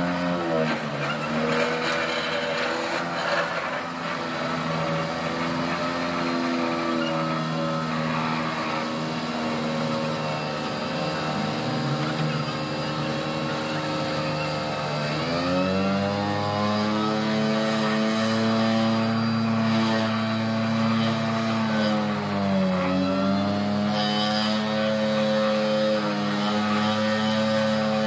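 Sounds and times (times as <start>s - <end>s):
excavators droning: 0.0s - 28.0s.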